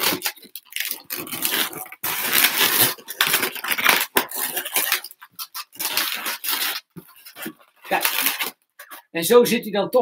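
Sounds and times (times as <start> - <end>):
balloons squeaking and rubbing: 0.0 - 9.3.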